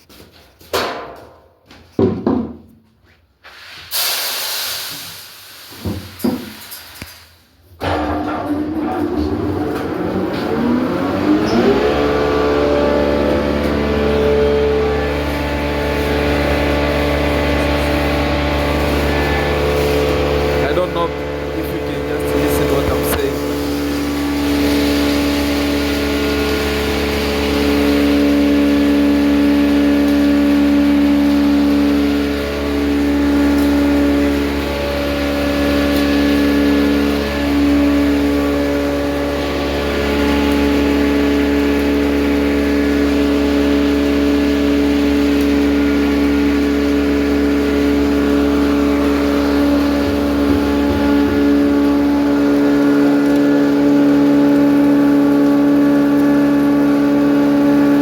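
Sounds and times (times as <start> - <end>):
grinding mill humming: 7.8 - 58.0.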